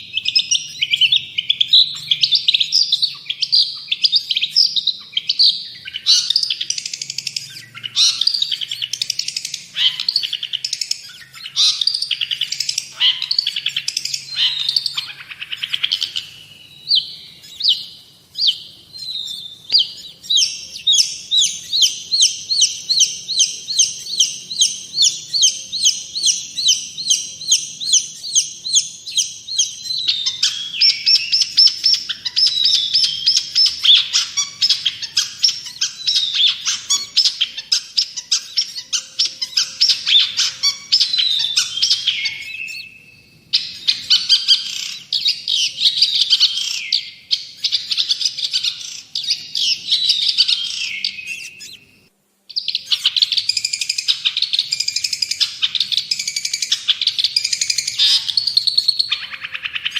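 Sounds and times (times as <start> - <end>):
shrike singing: 0.0 - 59.9.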